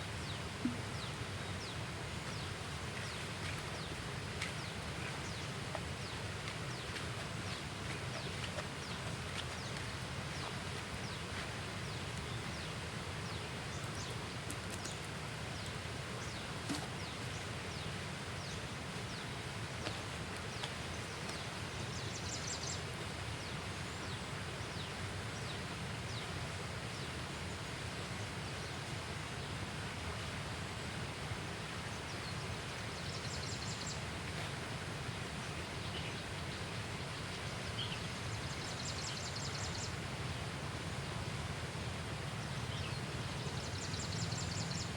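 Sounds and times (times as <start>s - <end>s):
noisy outdoor background: 0.0s - 44.9s.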